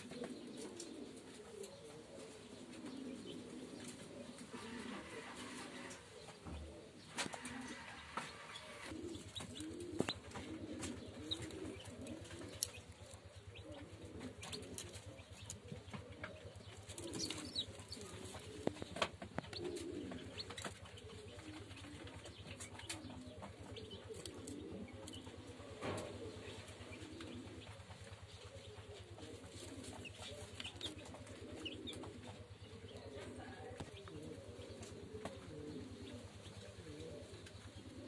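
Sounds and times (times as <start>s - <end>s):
pigeon cooing: 0.0s - 38.0s.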